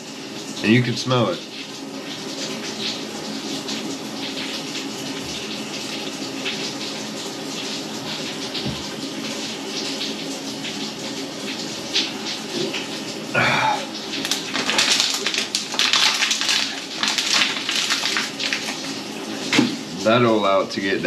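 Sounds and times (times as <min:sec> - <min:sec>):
shower running: 0:00.0 - 0:21.0.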